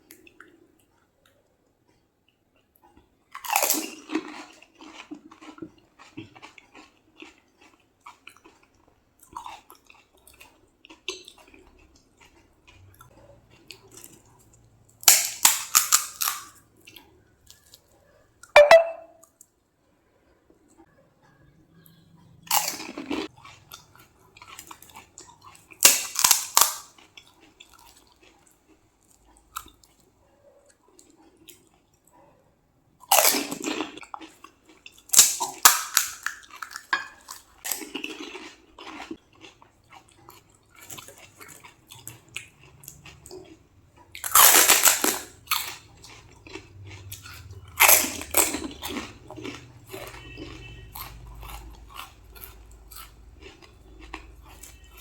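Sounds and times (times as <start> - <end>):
crunchy food being chewed: 0.0 - 18.5, 20.5 - 55.0.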